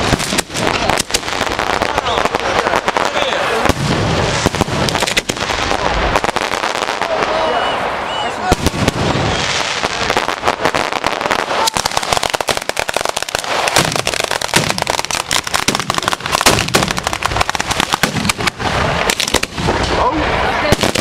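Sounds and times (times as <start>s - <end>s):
firecrackers banging and crackling: 0.0s - 21.0s.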